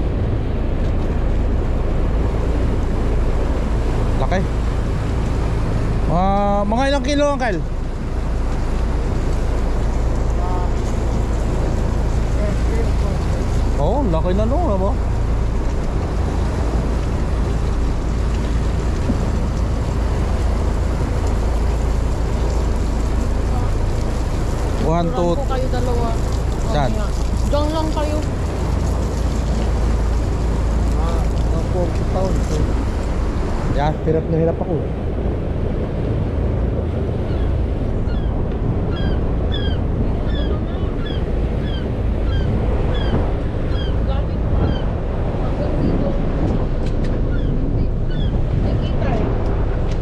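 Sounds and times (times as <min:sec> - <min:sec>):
boat engine rumbling: 0:00.0 - 0:50.0
wind noise on microphone: 0:07.6 - 0:50.0.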